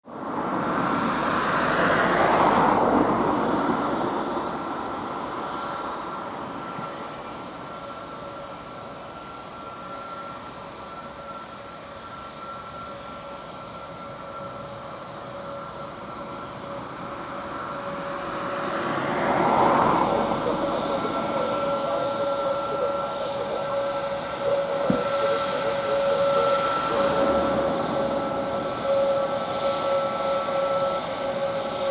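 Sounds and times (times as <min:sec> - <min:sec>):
jet engines roaring with whine: 0:00.0 - 0:31.9.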